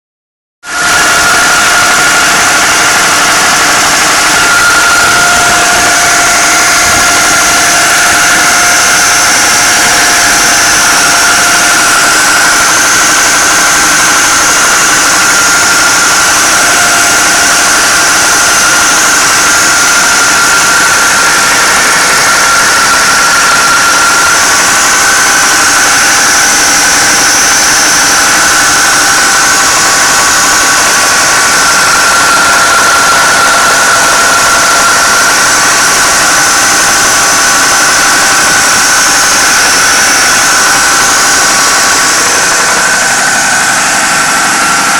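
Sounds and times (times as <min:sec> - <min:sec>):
car engine running: 0:00.6 - 0:44.9
engine knocking noise: 0:00.6 - 0:44.9.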